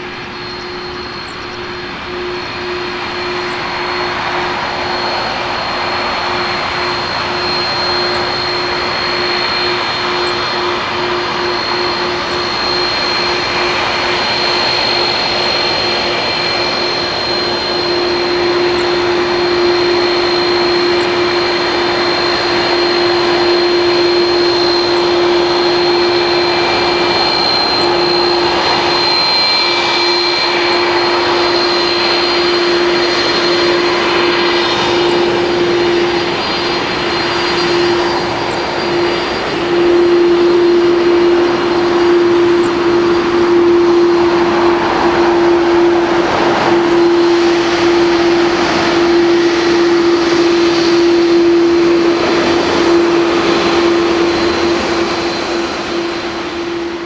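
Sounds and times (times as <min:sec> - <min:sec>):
jet engines at taxi idle: 0:00.0 - 0:57.0.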